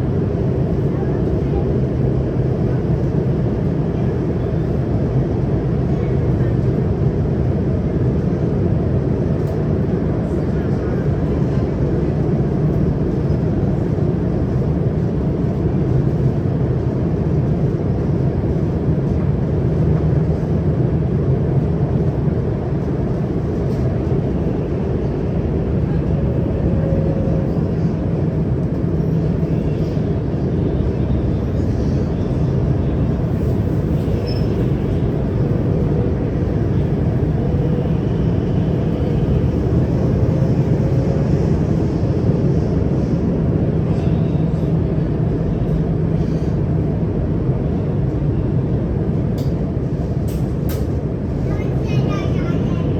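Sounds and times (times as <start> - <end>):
metro train rumbling: 0.0 - 52.9.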